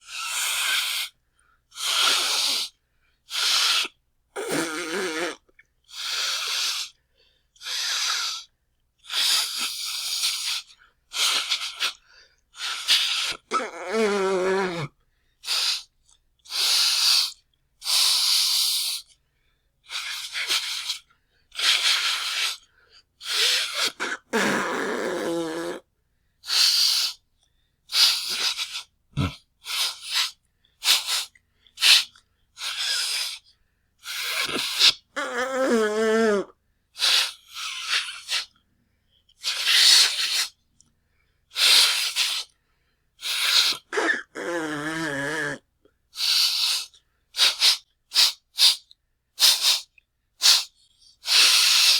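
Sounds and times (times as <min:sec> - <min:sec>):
person blowing nose: 0:00.0 - 0:01.2, 0:01.8 - 0:06.9, 0:07.6 - 0:08.5, 0:09.1 - 0:15.9, 0:16.5 - 0:19.1, 0:19.9 - 0:25.8, 0:26.4 - 0:27.2, 0:27.9 - 0:38.5, 0:39.4 - 0:40.6, 0:41.5 - 0:42.6, 0:43.2 - 0:45.6, 0:46.2 - 0:51.9.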